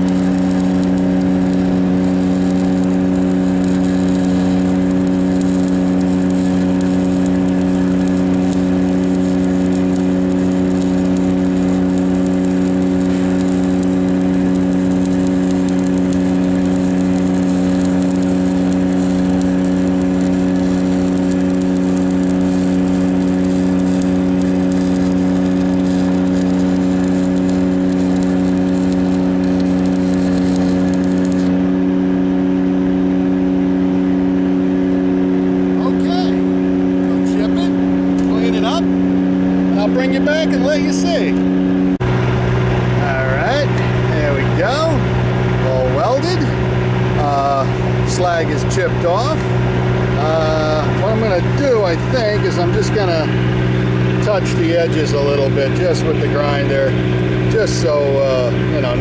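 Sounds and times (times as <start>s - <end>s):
welding arc hissing: 0.0s - 32.0s, 35.7s - 59.0s
welding machine engine running: 0.0s - 59.0s.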